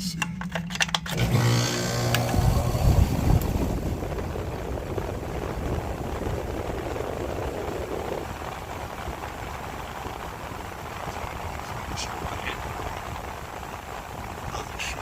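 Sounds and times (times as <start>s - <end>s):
compressor humming: 0.0s - 15.0s
fan motor whine and air rush: 0.5s - 15.0s.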